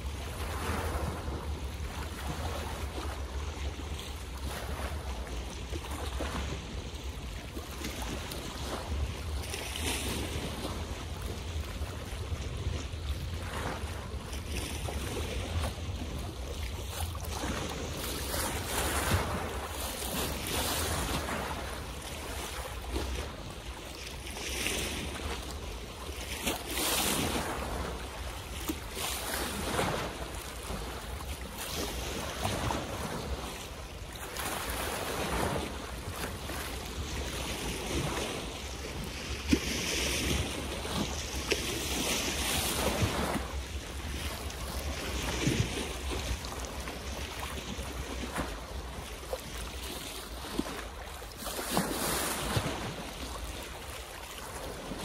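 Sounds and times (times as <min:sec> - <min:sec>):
wind rumble on microphone: 0:00.0 - 0:50.8
water waves splashing: 0:00.0 - 0:55.0.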